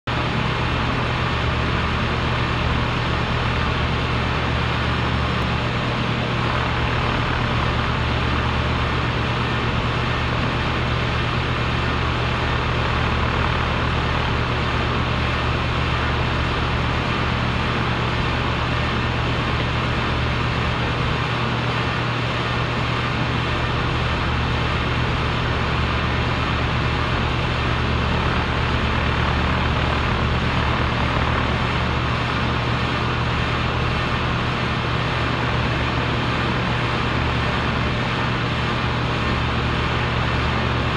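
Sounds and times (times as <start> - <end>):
compressor humming: 0.1 - 40.9.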